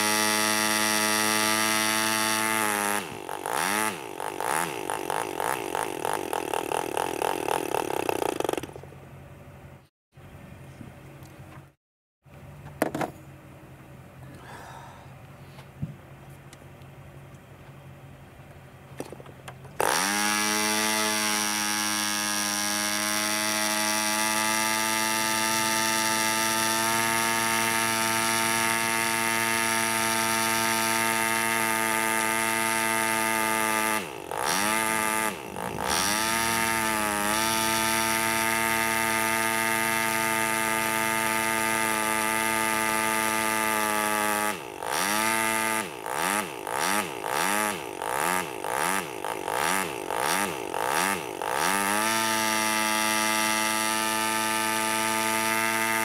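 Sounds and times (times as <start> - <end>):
model engine running: 0.0 - 8.8, 19.8 - 56.0.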